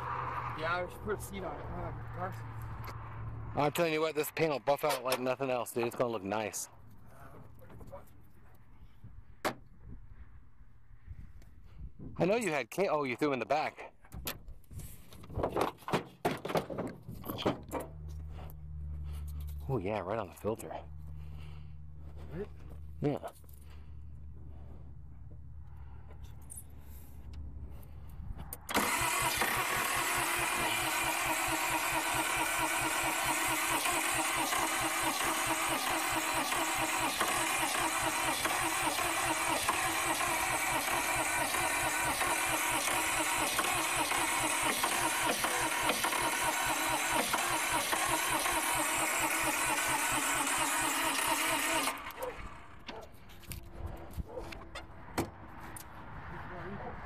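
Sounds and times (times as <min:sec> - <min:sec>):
diesel engine cranking: 0:00.0 - 0:08.0, 0:15.0 - 0:55.9.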